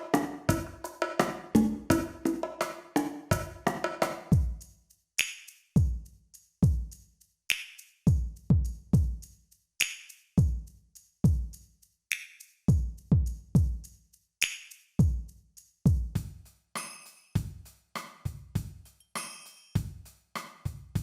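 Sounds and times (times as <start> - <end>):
drum machine percussion groove: 0.0 - 21.0.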